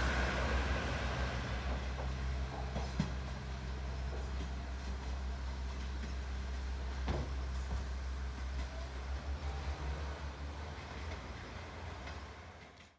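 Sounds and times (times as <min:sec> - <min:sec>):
diesel railcar rumbling on track: 0:00.0 - 0:12.9.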